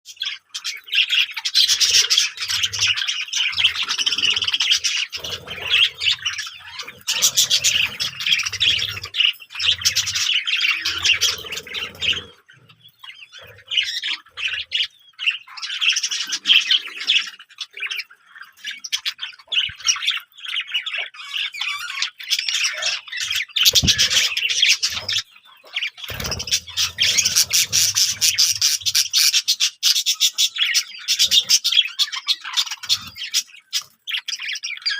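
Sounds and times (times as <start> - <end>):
small birds chirping and twittering: 0.0 - 34.9.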